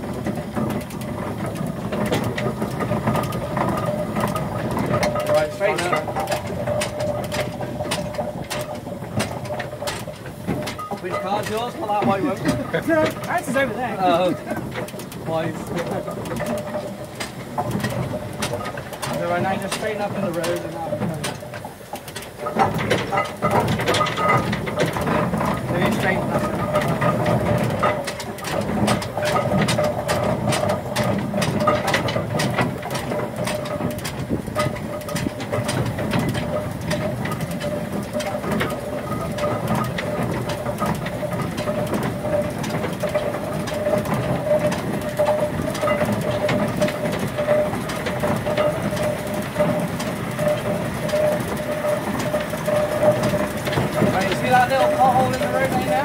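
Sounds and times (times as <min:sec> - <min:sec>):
steam engine gearing clattering: 0:00.0 - 0:56.0.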